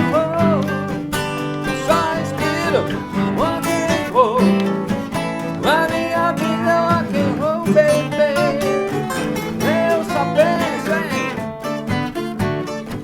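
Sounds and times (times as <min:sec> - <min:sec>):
guitar lead bending notes: 0:00.0 - 0:13.0.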